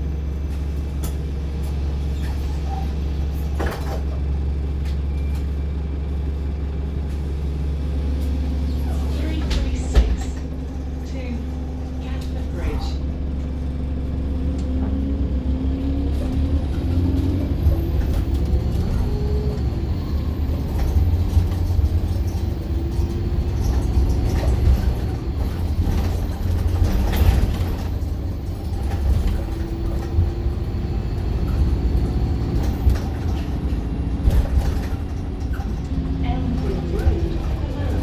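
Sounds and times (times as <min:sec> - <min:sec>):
bus engine rumble: 0:00.0 - 0:38.0.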